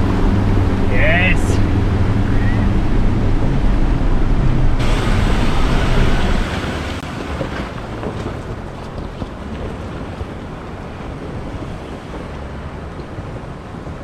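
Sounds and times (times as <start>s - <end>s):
creek water rushing: 0.0s - 2.9s, 4.8s - 14.0s
vehicle engine rumbling low: 0.0s - 14.0s.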